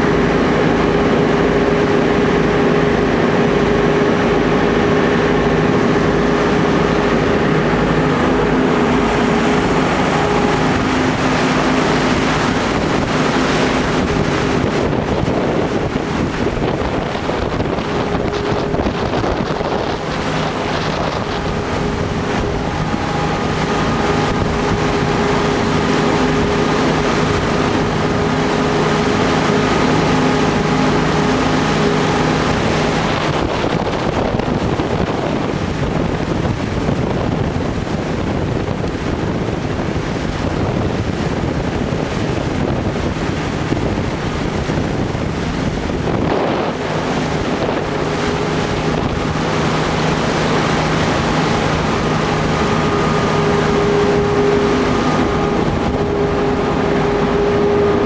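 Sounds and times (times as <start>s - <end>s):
boat engine hum: 0.0s - 58.0s
water rushing in wake: 0.0s - 58.0s
wind buffeting microphone: 0.0s - 58.0s.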